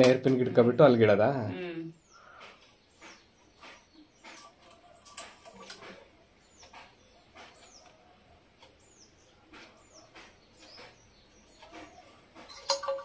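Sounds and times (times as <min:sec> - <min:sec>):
small bird chirping: 0:01.9 - 0:13.0.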